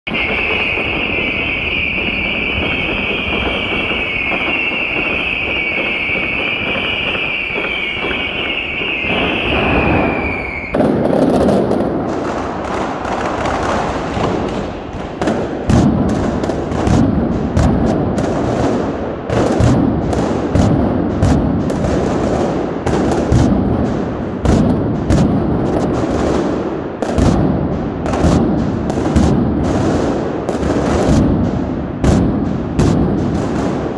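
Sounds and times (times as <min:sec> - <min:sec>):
firework bangs and crackles: 0:00.0 - 0:33.9
whistling fireworks: 0:00.0 - 0:33.9.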